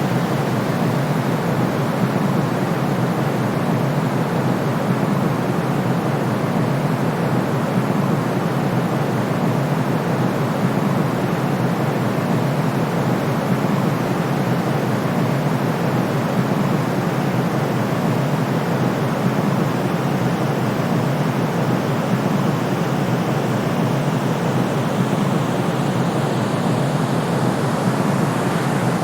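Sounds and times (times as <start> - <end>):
white noise hiss: 0.0 - 29.0.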